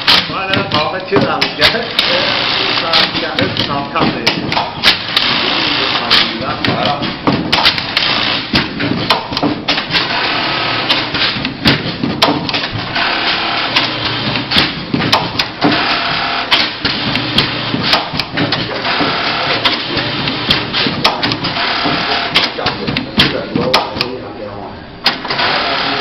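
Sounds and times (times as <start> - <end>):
industrial sewing machine clattering: 0.0 - 24.2, 25.0 - 26.0
sharp clicks and clacks: 0.0 - 24.2.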